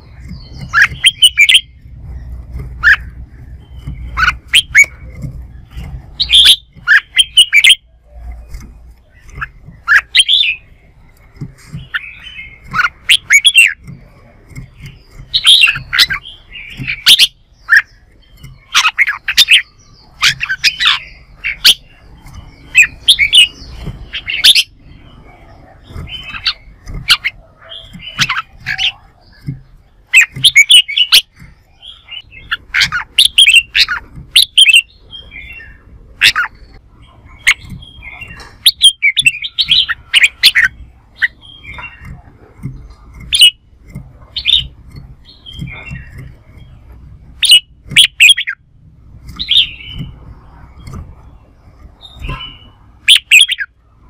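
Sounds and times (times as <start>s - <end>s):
bulbuls singing: 0.0s - 54.0s.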